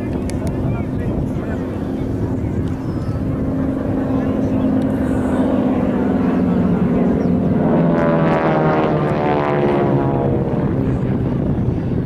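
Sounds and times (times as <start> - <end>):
higher engine note: 0.0 - 11.7
propeller aircraft droning overhead: 0.0 - 12.0.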